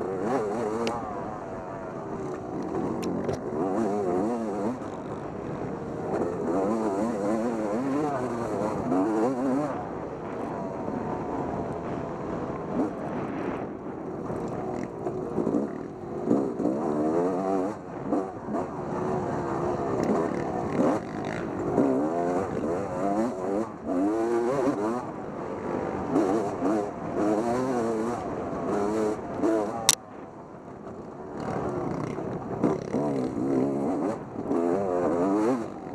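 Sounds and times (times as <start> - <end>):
dirt bike engine revving: 0.0 - 13.5, 14.2 - 30.0, 31.3 - 35.9.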